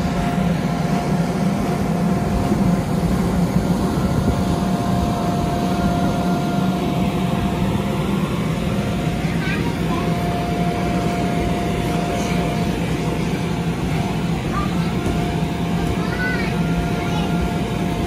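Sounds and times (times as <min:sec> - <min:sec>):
electric blower fan droning: 0:00.0 - 0:18.0.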